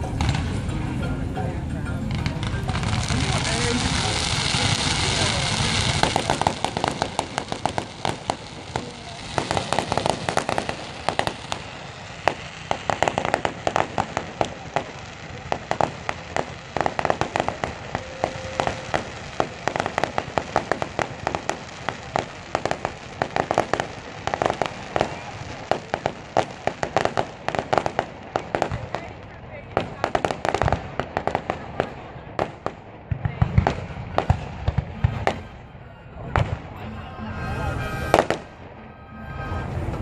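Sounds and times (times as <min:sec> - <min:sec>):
fireworks popping and crackling: 0:00.0 - 0:36.8, 0:37.7 - 0:38.7.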